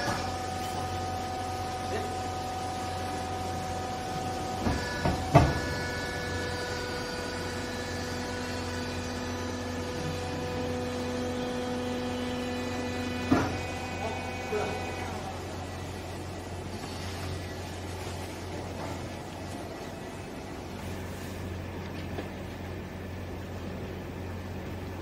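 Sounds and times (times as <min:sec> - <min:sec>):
hydraulic baler motor humming: 0:00.0 - 0:25.0.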